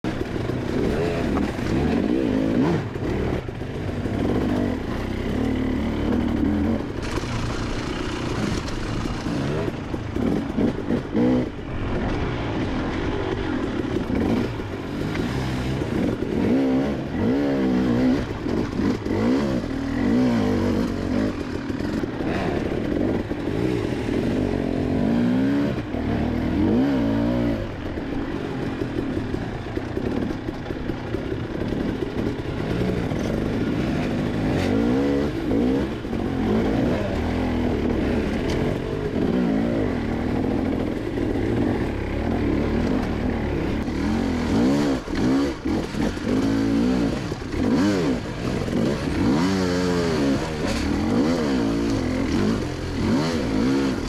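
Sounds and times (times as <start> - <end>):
dirt bike engine revving: 0.1 - 31.0, 31.7 - 54.0.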